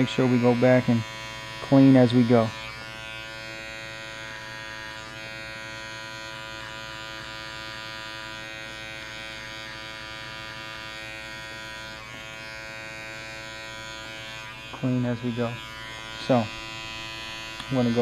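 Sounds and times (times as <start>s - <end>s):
electric hair clipper buzzing: 0.0s - 18.0s.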